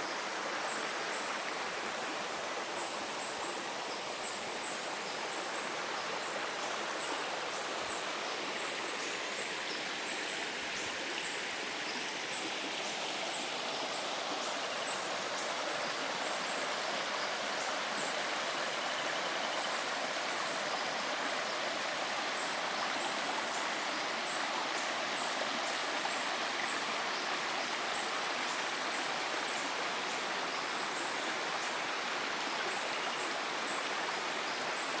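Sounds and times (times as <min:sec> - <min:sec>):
stream water rushing: 0:00.0 - 0:35.0.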